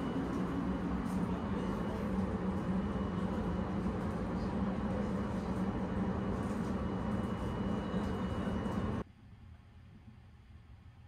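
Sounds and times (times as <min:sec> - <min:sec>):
sleeper train rumbling: 0:00.0 - 0:09.0.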